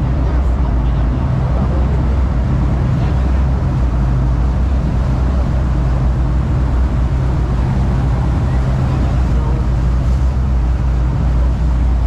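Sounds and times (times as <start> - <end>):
boat engine droning: 0.0 - 12.0
wake water rushing: 0.0 - 12.0.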